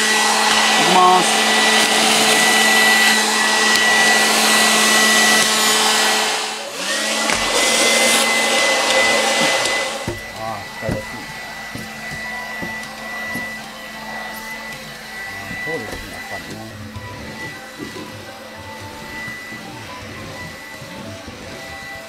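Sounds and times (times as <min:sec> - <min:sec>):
stick vacuum motor whine: 0:00.0 - 0:22.0.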